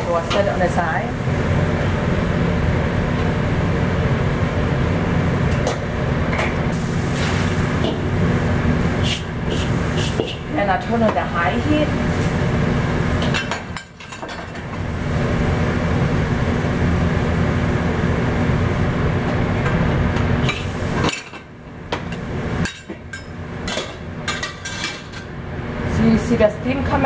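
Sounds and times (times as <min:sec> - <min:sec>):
gas burner roaring: 0:00.0 - 0:27.0.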